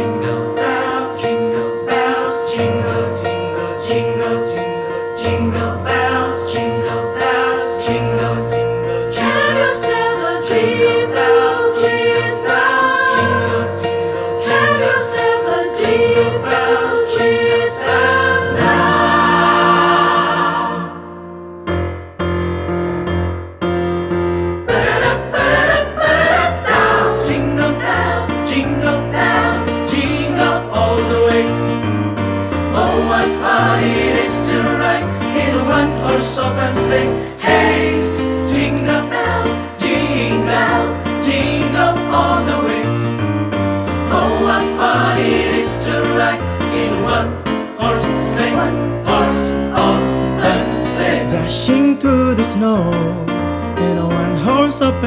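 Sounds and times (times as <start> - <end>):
vocal group singing choral music: 0.0 - 21.6, 24.6 - 55.0.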